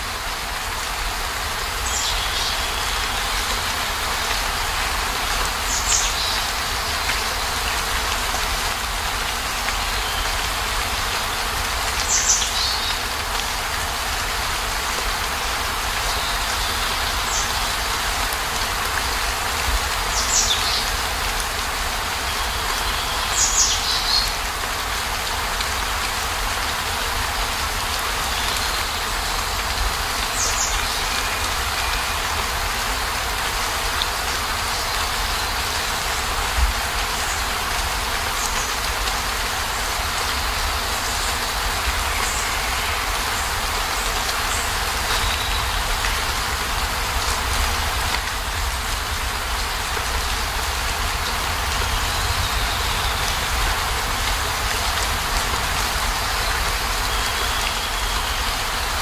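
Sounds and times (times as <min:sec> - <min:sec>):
heavy rain on car roof: 0:00.1 - 0:59.0.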